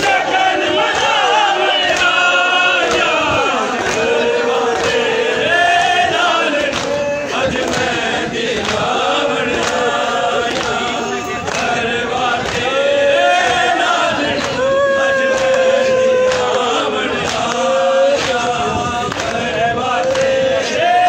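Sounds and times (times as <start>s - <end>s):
crowd chanting and singing: 0.0s - 21.0s.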